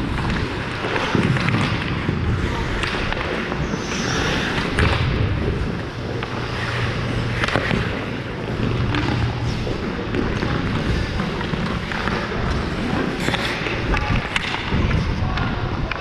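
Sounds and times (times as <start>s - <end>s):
skate blades scraping ice: 0.0s - 15.2s
hockey sticks and puck clacking: 0.0s - 16.0s.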